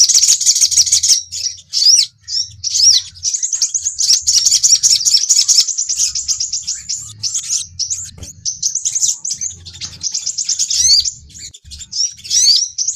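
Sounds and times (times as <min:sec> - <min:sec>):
bird chirping in rapid trills: 0:00.0 - 0:12.9.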